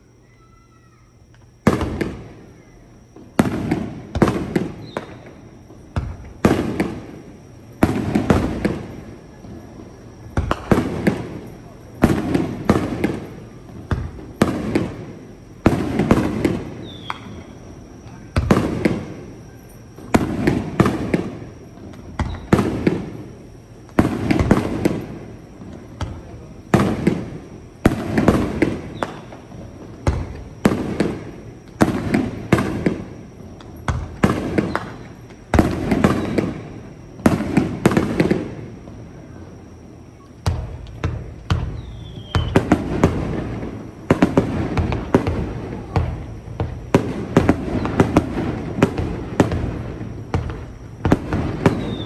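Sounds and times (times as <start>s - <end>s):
fireworks bursting: 1.1s - 52.0s.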